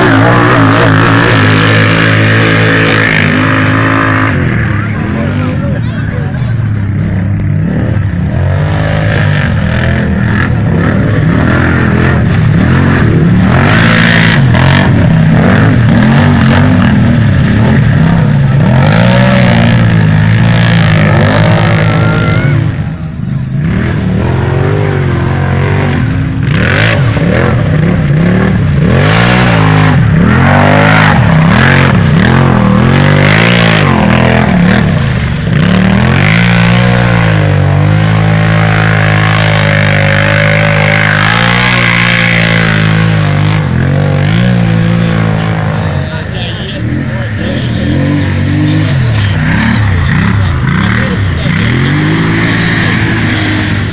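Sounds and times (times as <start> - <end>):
quad bike engines revving: 0.0 - 53.9.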